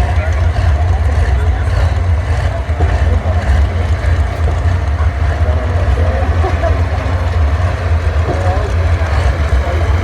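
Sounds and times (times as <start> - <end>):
tractor engine rumbling: 0.0 - 10.0.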